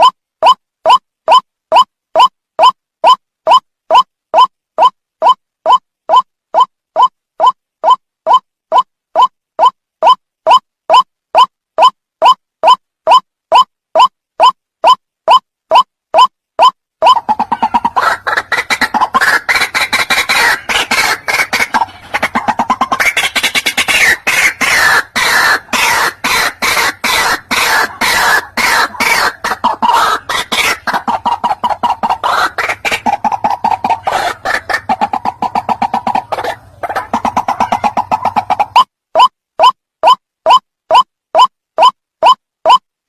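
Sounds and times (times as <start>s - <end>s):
waterhen calling harsh notes: 0.0s - 42.8s.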